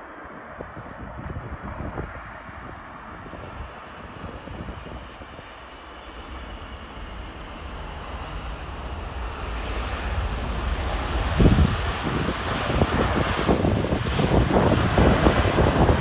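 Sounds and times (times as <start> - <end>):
jet engine roar: 0.0 - 16.0
wind buffeting microphone: 0.0 - 16.0.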